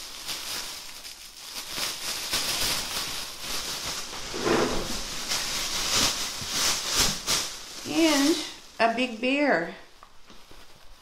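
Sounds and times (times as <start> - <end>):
plastic bag rustling and crinkling: 0.0 - 11.0.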